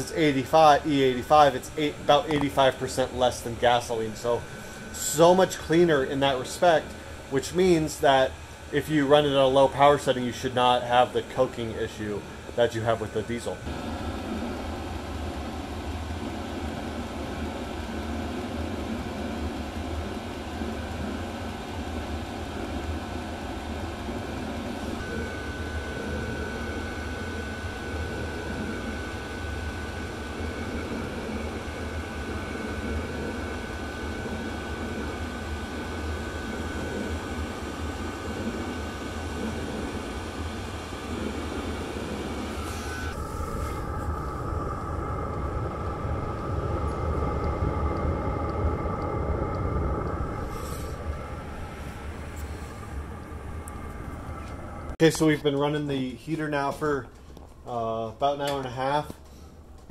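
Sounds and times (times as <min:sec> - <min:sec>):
heater blower fan hum: 0:00.0 - 0:59.9
high-pitched whine: 0:00.0 - 0:59.9.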